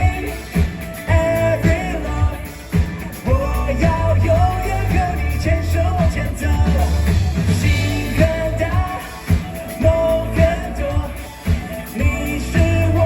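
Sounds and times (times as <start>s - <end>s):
live pop-rock band: 0.0s - 13.0s.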